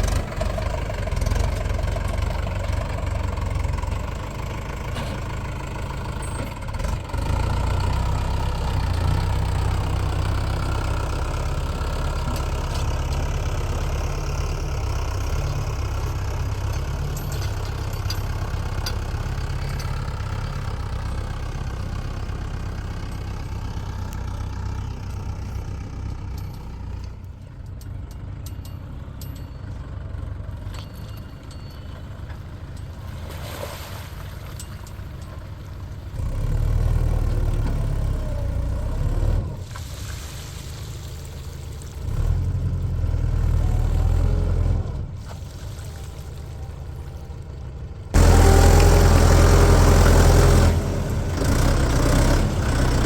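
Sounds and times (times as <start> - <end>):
heavy diesel engine running: 0.0 - 33.3, 34.1 - 53.0.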